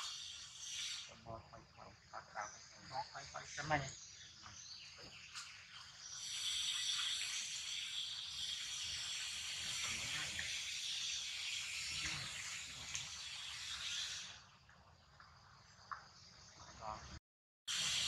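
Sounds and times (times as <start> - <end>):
insect chorus buzzing: 0.0 - 14.5.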